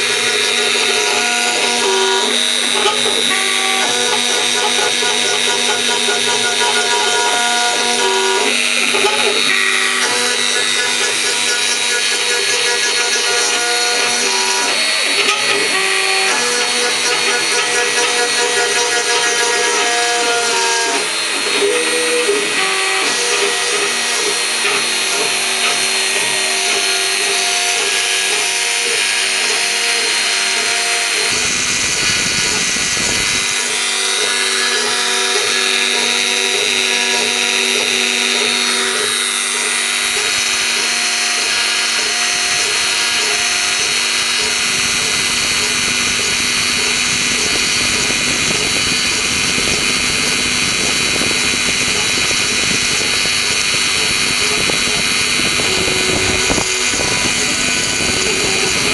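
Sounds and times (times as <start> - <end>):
cutter running through wood: 0.0 - 58.9
spindle whining: 0.0 - 58.9
stepper motors humming: 0.0 - 58.9.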